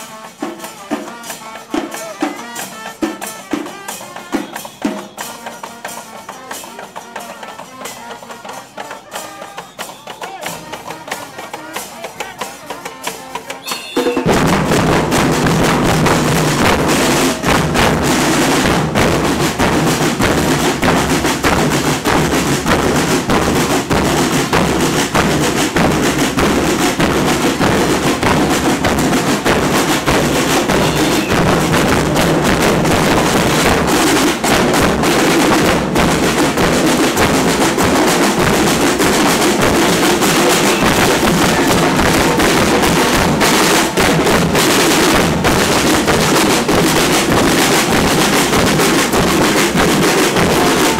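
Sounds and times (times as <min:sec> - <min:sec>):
carnival drums and cymbals: 0:00.0 - 0:50.9.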